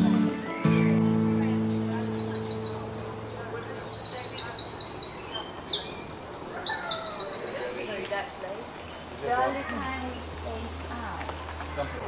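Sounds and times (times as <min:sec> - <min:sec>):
songbirds singing: 0:00.6 - 0:12.0.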